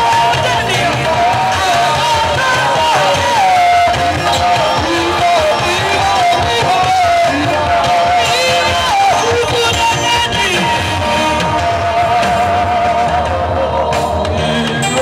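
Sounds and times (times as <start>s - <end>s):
gliding lead melody: 0.0s - 15.0s
live praise band music: 0.0s - 15.0s
steady drum beat: 0.0s - 15.0s.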